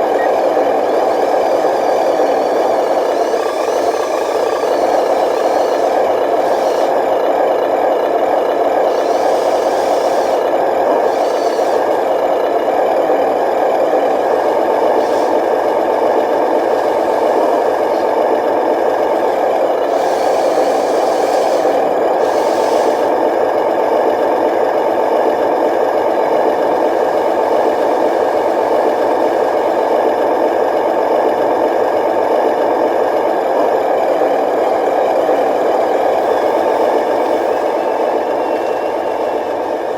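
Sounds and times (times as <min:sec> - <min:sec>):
toy truck motor whirring: 0:00.0 - 0:39.9.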